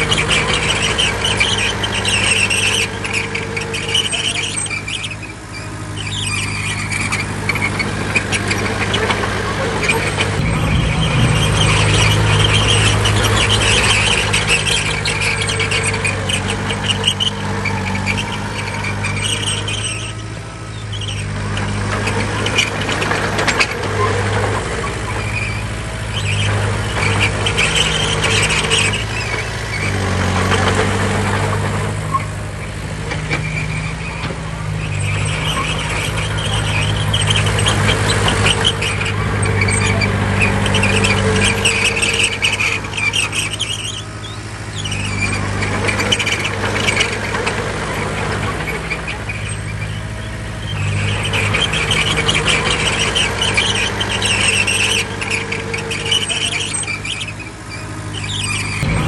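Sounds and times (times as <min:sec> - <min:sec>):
diesel machinery engine drone: 0:00.0 - 0:59.0
high-pitched squealing: 0:00.0 - 0:59.0.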